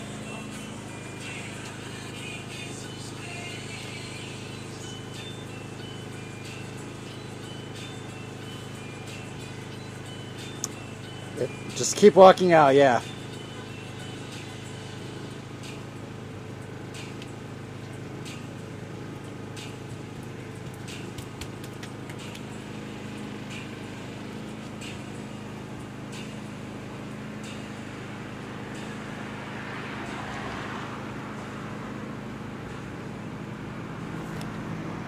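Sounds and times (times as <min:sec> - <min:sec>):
city street traffic hum: 0:00.0 - 0:35.0.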